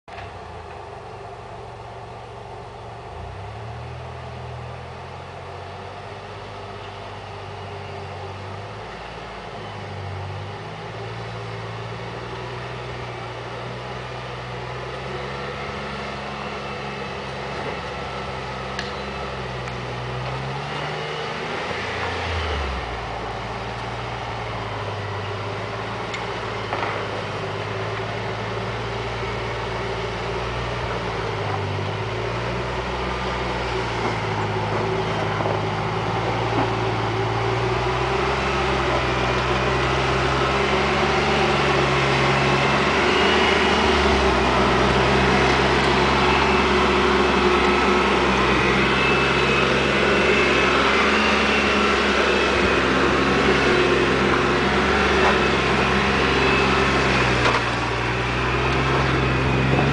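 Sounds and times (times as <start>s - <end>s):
suv engine running at low revs: 0.0s - 59.9s.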